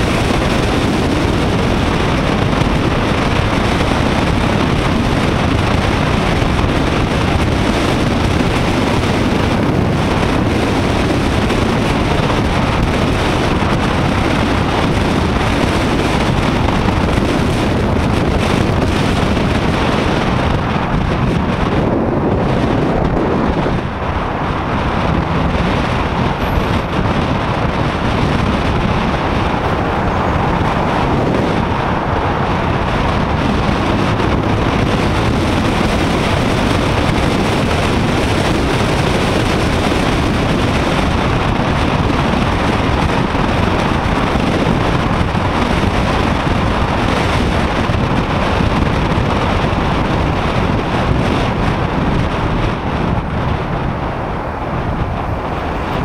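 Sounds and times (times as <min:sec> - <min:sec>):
motorcycle engine: 0:00.0 - 0:56.0
road noise: 0:00.0 - 0:56.0
wind rushing on microphone: 0:00.0 - 0:56.0.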